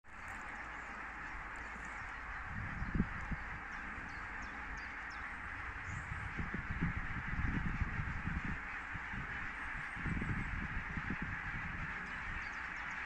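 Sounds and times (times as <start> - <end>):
ducks calling: 0.1 - 13.0.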